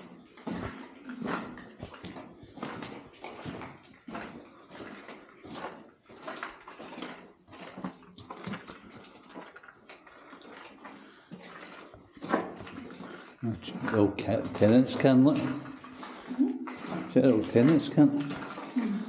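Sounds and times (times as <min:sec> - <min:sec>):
footsteps in a tunnel: 0:00.0 - 0:19.0.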